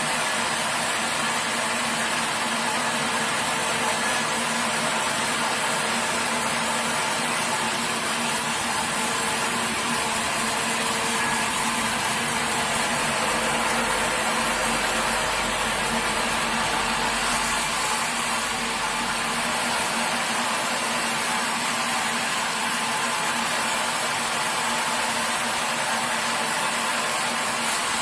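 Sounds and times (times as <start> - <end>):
sawmill machinery hum and hiss: 0.0 - 28.0.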